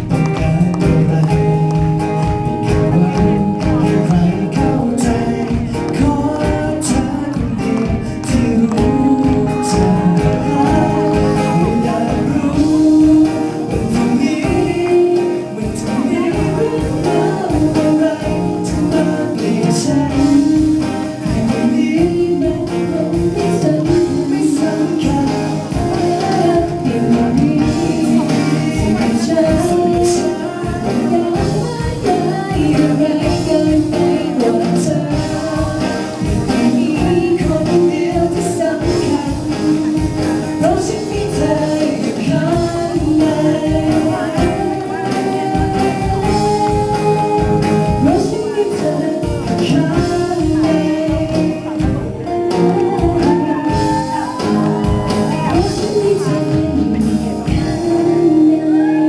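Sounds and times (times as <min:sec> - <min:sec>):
backing music with steady beat: 0:00.0 - 0:59.0
person singing: 0:00.0 - 0:59.0.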